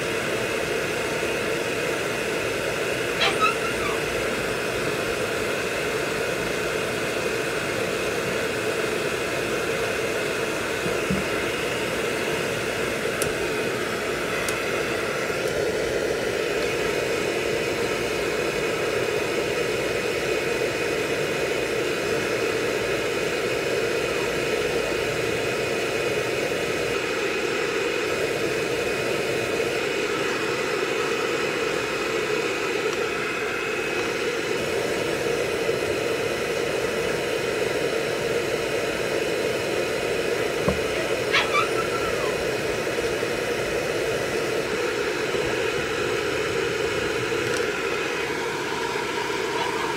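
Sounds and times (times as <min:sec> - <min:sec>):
hair dryer blowing air: 0:00.0 - 0:49.9.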